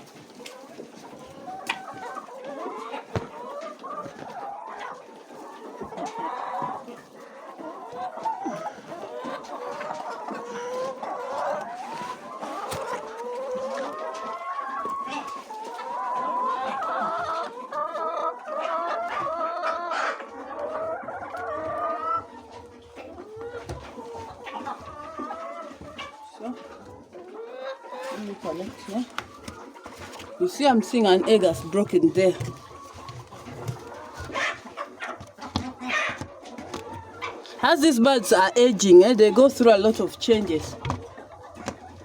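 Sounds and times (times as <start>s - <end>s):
hens clucking: 0.0s - 42.0s.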